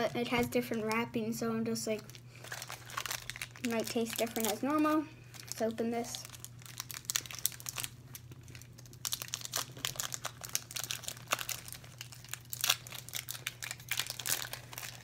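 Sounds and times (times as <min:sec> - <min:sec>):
candy wrapper crinkling and tearing: 0:01.9 - 0:15.0.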